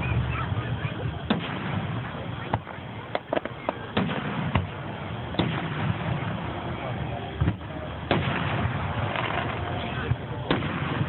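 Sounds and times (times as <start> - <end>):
firework shells bursting: 1.2 - 6.6, 7.4 - 11.0.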